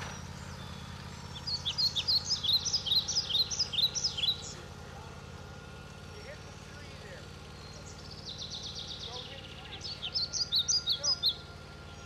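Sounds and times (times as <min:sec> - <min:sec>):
rapid bird chirping: 0:00.0 - 0:05.3, 0:06.2 - 0:12.0.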